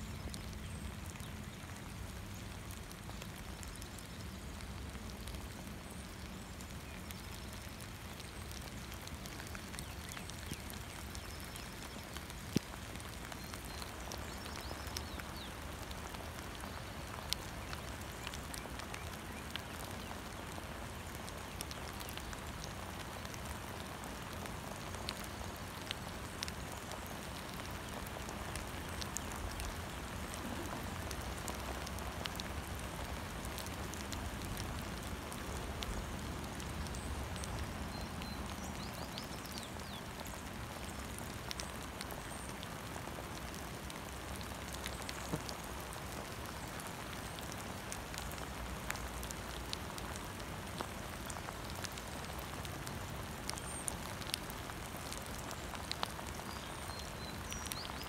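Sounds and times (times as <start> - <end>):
raindrops ticking: 0.0 - 58.0
steady rain falling: 0.0 - 58.0.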